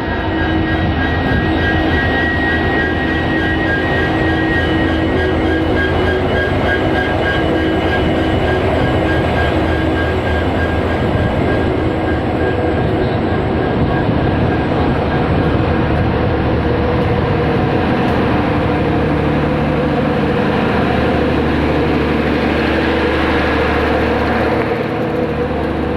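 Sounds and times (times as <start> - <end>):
diesel engine humming: 0.0 - 25.9.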